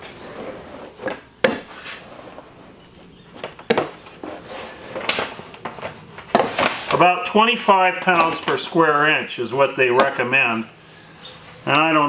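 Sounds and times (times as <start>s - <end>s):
rolling pin rolling rumble: 0.0s - 10.7s.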